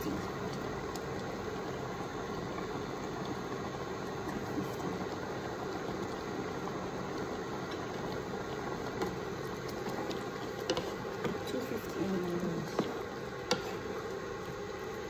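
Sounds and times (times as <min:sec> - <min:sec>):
curry bubbling in a pan: 0:00.0 - 0:15.0.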